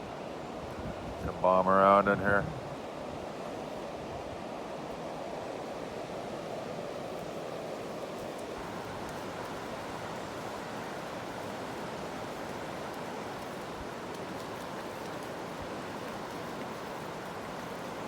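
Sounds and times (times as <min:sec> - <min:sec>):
floodwater rushing: 0:02.4 - 0:18.0.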